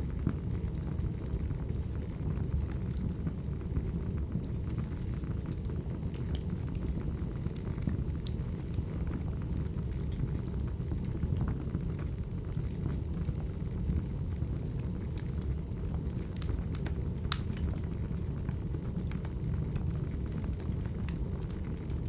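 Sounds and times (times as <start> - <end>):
wood fire burning: 0.0 - 22.0
crackles and pops from logs: 0.1 - 22.0.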